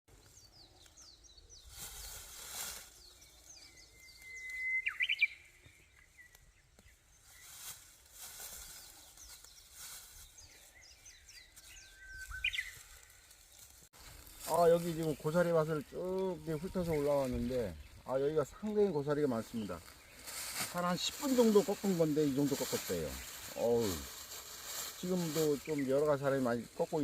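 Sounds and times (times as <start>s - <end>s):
songbirds chirping: 0.1s - 27.0s.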